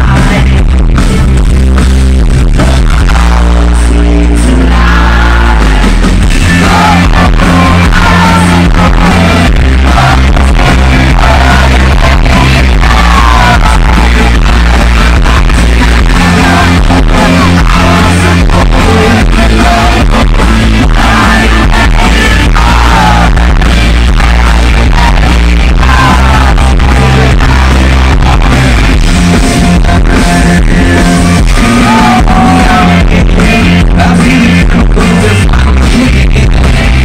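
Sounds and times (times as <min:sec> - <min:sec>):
male lead singer: 0:00.0 - 0:01.6, 0:02.2 - 0:37.0
steady drum beat: 0:00.0 - 0:03.7, 0:05.5 - 0:37.0
heavy bass line: 0:00.0 - 0:37.0.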